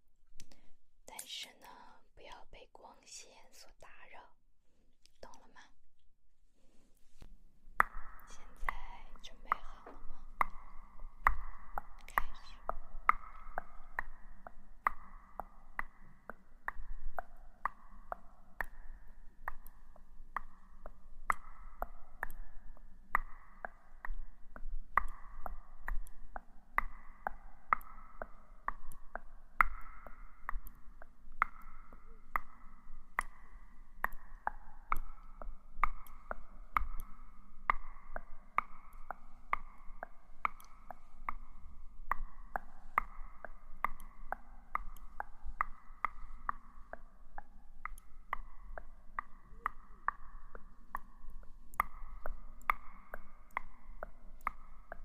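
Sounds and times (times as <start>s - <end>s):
steady clock-like ticking: 7.8s - 55.0s.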